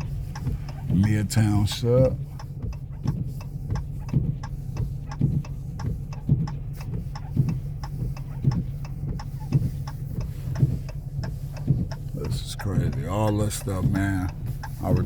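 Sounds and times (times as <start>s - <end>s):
car driving hum: 0.0s - 15.0s
faint ticks: 0.0s - 15.0s
windshield wipers thumping: 0.0s - 15.0s.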